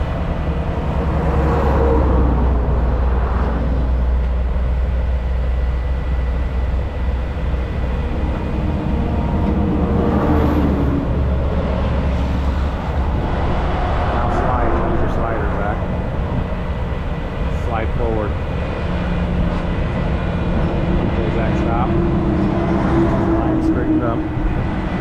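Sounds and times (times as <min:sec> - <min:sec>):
diesel engines rumbling: 0:00.0 - 0:25.0.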